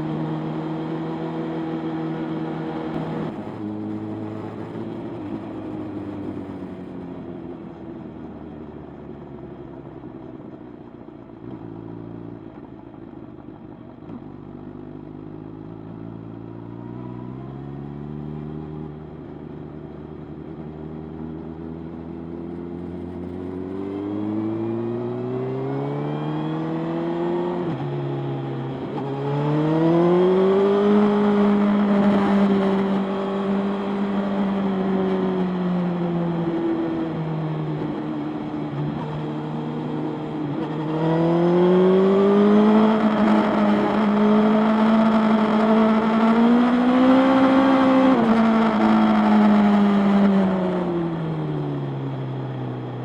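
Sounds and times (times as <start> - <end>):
motorcycle engine accelerating: 0.0 - 9.2, 11.3 - 53.0.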